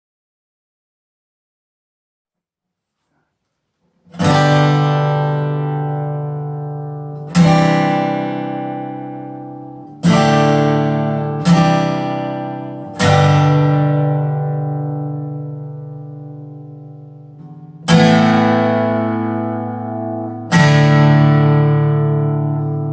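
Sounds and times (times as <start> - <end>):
acoustic guitar chords strummed: 4.0 - 22.9.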